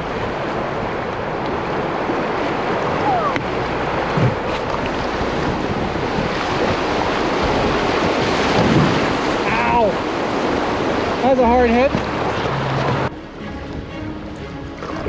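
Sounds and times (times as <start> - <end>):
river rapid rushing: 0.0 - 15.0
wind buffeting microphone: 0.0 - 15.0.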